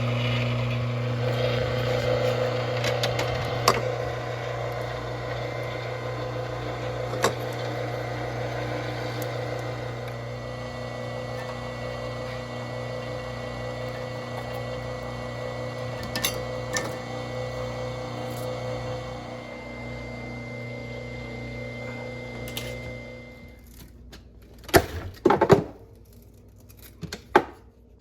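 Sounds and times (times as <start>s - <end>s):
small motor humming: 0.0s - 23.6s.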